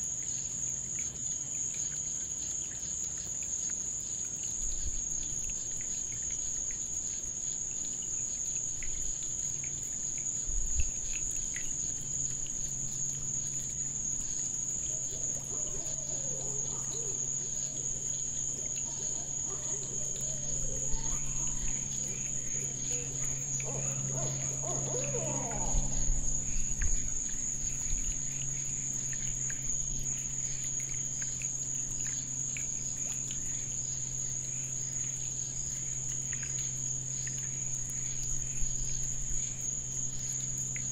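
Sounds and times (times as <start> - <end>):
crickets trilling: 0.0 - 40.9
low steady hum: 0.0 - 40.9.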